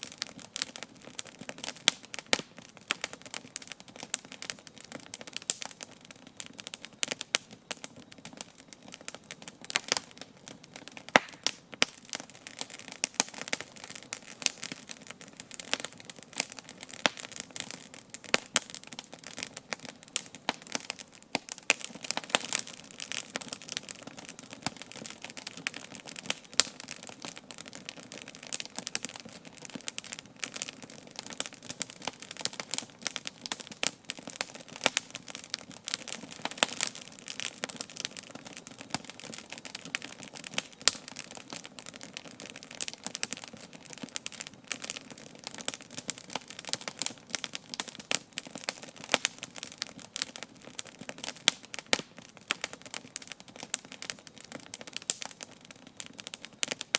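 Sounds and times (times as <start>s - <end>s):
campfire crackling and popping: 0.0s - 56.9s
soft hiss of flames: 0.0s - 56.9s.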